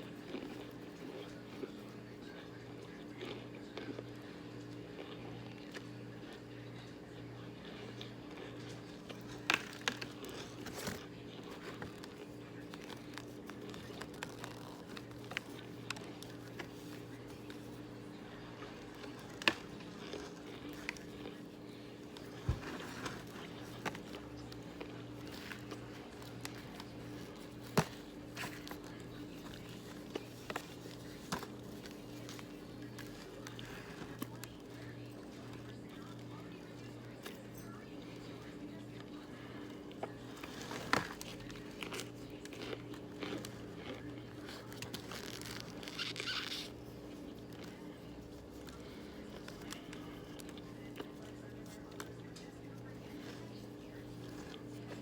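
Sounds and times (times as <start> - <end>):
cornstarch chunks crunching: 0.0 - 55.0
steady low hum: 0.0 - 55.0.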